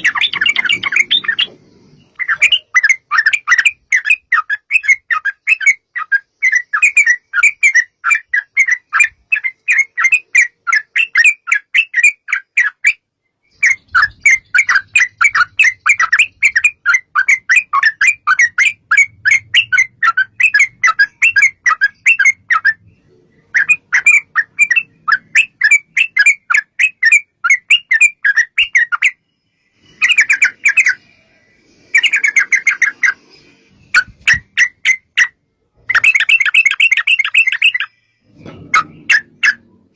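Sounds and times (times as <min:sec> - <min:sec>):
bird singing bubbly chirps: 0:00.0 - 0:39.7.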